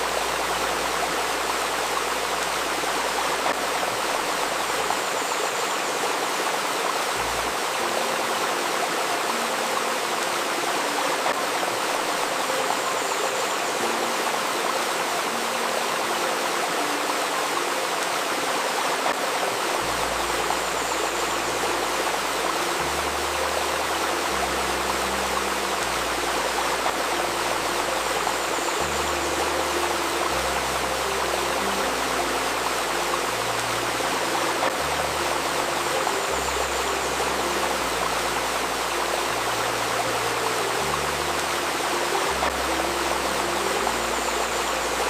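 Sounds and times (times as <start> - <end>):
babbling stream flowing: 0.0 - 45.0
low sustained synth notes: 0.0 - 45.0.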